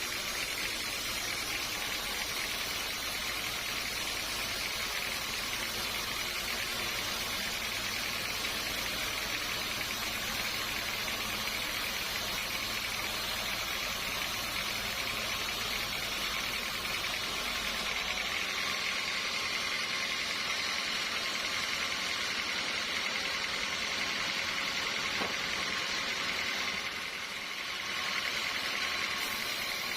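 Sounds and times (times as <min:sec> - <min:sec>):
sawmill machinery running: 0:00.0 - 0:29.9.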